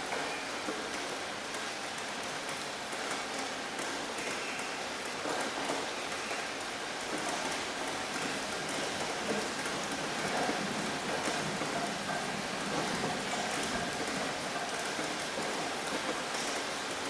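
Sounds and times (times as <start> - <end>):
rain on a hard surface: 0.0 - 17.0.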